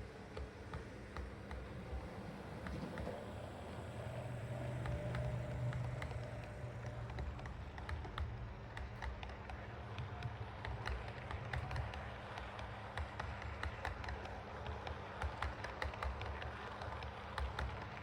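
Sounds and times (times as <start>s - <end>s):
wheels clicking over rail joints: 0.0s - 18.0s.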